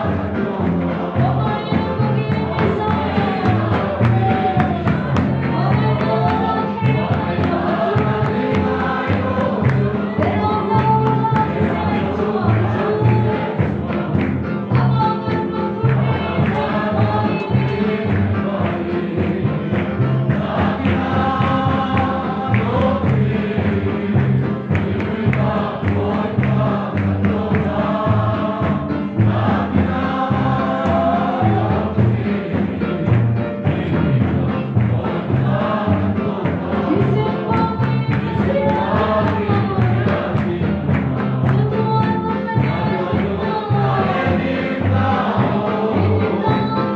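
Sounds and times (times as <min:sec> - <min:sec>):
group singing gospel: 0:00.0 - 0:46.9
instrumental backing with bass: 0:00.0 - 0:46.9.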